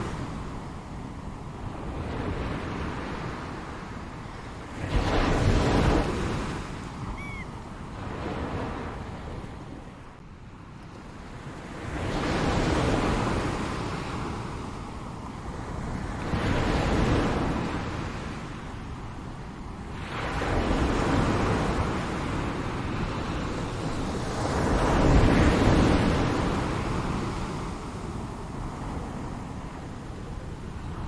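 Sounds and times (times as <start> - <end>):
ocean waves breaking on shore: 0.0 - 31.0.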